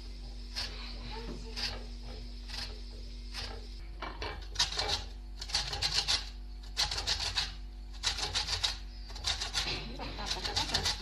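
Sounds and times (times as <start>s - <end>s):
citrus peel scraping on grater: 0.5s - 3.6s, 4.4s - 11.0s.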